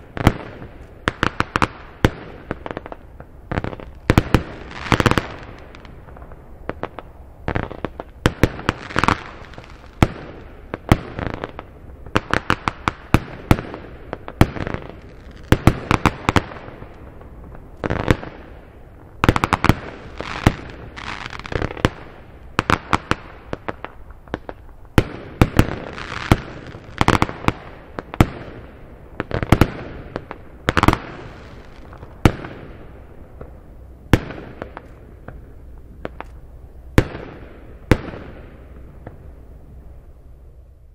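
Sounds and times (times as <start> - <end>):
firework bangs: 0.0 - 39.8
firework crackling: 0.0 - 40.9.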